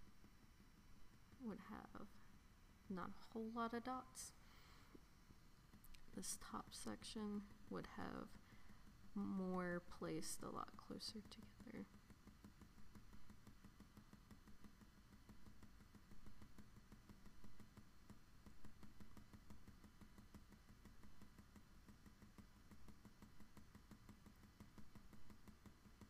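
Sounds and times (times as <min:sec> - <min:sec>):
low steady hum: 0:00.0 - 0:26.0
pencil tapping on paper: 0:04.4 - 0:26.0.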